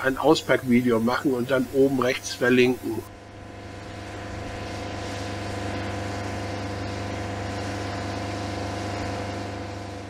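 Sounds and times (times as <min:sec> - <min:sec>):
generator humming: 0:00.0 - 0:10.0.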